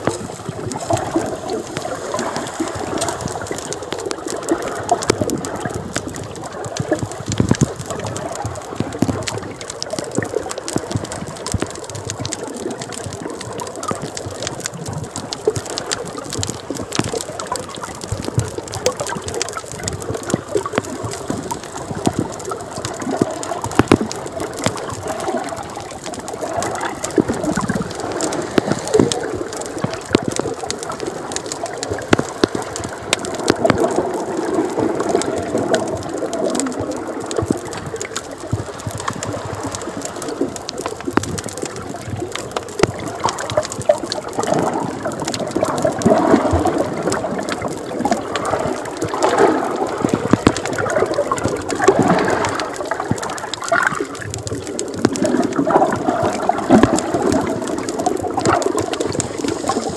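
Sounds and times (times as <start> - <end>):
small clicks and crackles: 0.0 - 59.9
underwater gurgling and bubbling: 0.0 - 59.9.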